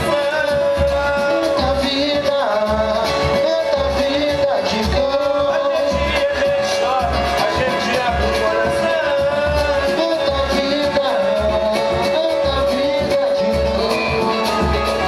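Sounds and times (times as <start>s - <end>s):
hand drums: 0.0s - 15.0s
person singing: 0.0s - 15.0s
plucked string instrument: 0.0s - 15.0s.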